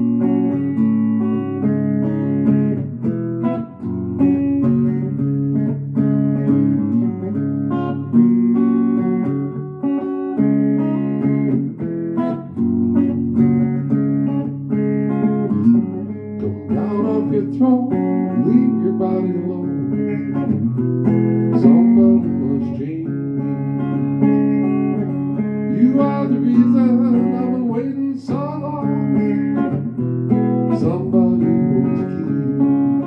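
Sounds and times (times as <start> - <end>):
picked guitar chords and notes: 0.0 - 33.0.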